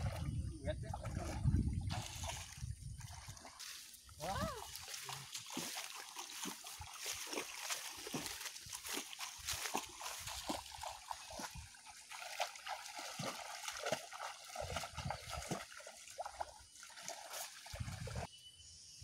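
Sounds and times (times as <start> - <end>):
wading through muddy water: 0.0 - 18.3.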